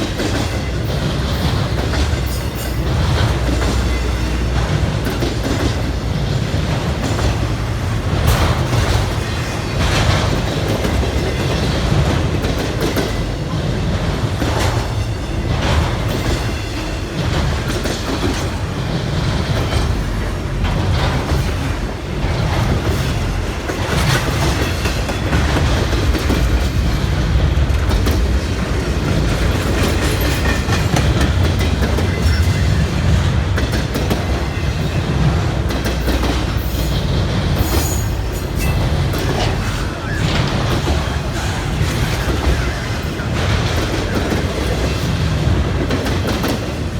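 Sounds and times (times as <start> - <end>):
train rumble: 0.0 - 46.9
train wheels clacking over rail joints: 0.0 - 46.9.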